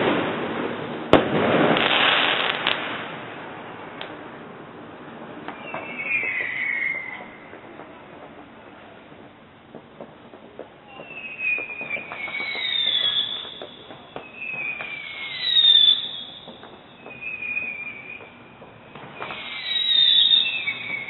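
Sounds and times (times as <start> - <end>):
fireworks popping and crackling: 0.0 - 21.0
whistling fireworks: 0.0 - 21.0.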